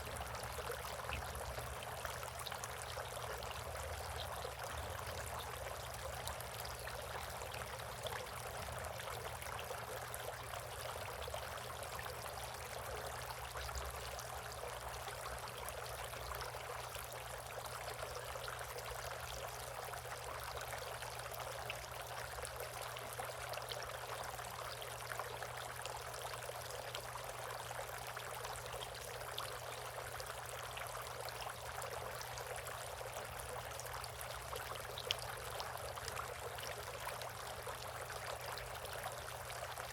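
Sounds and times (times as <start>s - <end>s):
water trickling in bird bath: 0.0s - 39.9s.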